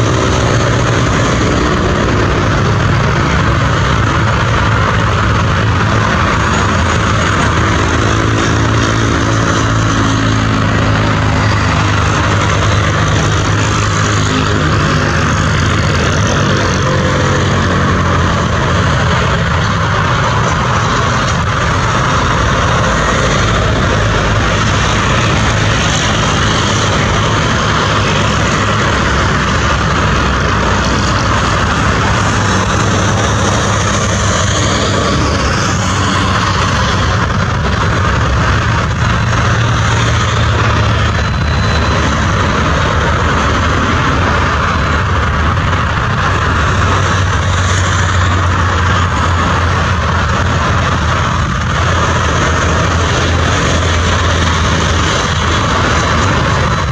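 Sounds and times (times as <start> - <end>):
jet engines rumbling and whining: 0.0 - 56.9.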